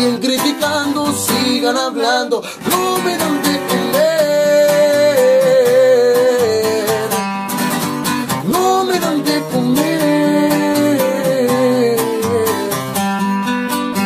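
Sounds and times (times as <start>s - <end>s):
man singing: 0.0s - 7.4s, 8.2s - 13.2s
strummed acoustic guitars: 0.0s - 14.0s.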